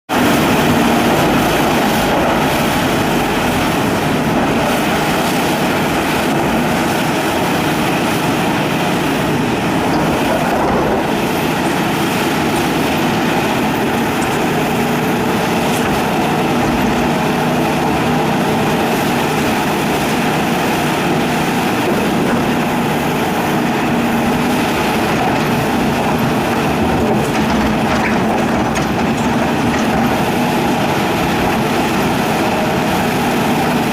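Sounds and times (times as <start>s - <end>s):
excavator engine running: 0.1s - 33.9s.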